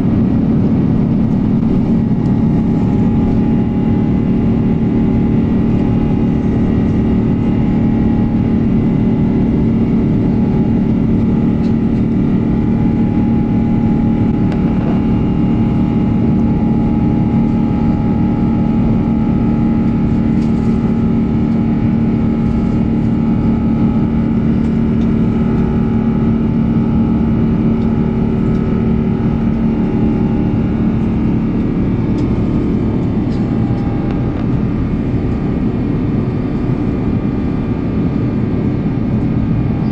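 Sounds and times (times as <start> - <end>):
constant hums: 0.0 - 39.9
jet engines at high thrust: 0.0 - 39.9.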